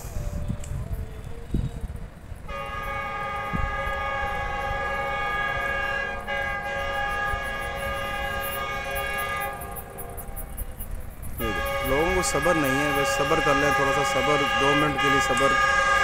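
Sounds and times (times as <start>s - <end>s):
train horn blast: 2.4s - 16.0s.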